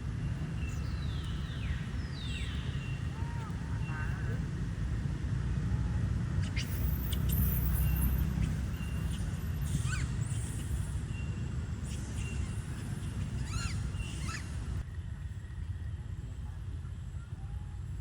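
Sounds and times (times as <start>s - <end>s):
low rumble of wind or handling: 0.0s - 18.0s.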